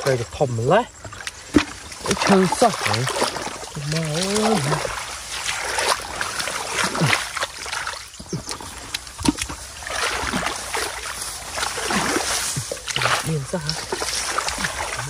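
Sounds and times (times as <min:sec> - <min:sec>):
hands splashing in muddy water: 0:01.1 - 0:15.0.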